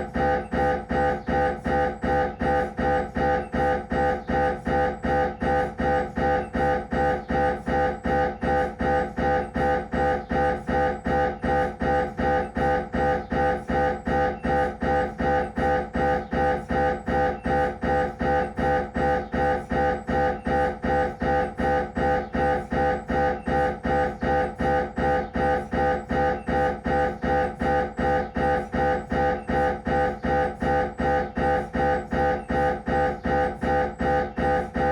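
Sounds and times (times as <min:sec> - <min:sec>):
mri scanner gradient coils buzzing: 0:00.0 - 0:34.9.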